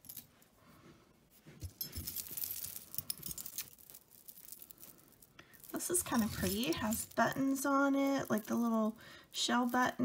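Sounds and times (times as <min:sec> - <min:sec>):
jewelry clinking and rustling: 0:00.0 - 0:00.7, 0:01.4 - 0:10.0.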